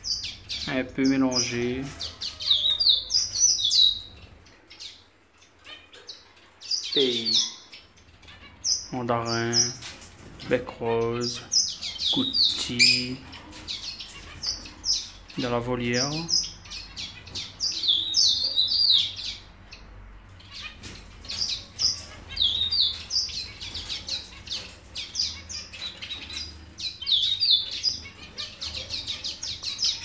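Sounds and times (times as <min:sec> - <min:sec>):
small finches chirping: 0:00.0 - 0:30.0.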